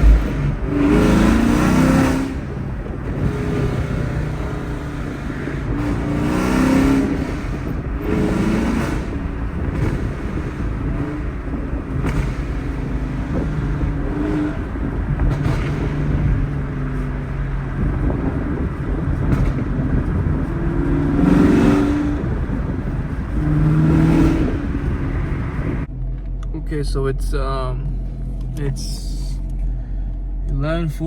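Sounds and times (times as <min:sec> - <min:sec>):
car engine rumbling: 0:00.0 - 0:31.0.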